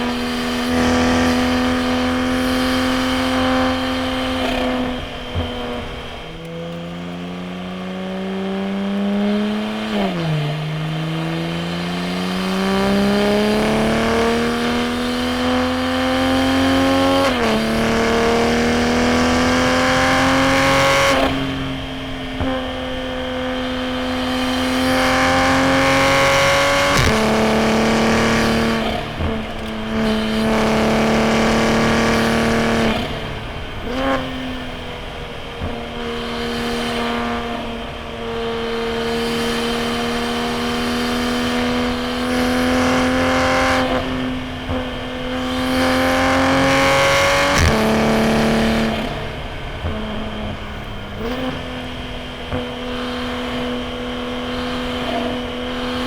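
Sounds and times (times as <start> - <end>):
car engine revving under load: 0.0 - 56.0.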